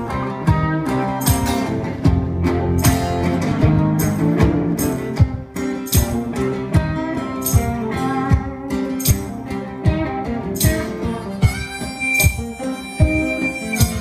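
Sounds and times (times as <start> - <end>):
acoustic guitar blues: 0.0 - 14.0.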